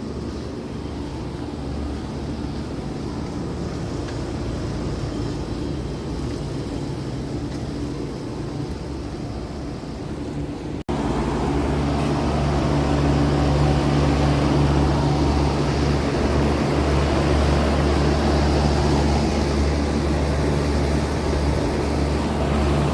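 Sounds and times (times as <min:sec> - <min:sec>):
compressor hum: 0:00.0 - 0:22.9
fan whooshing: 0:00.0 - 0:22.9.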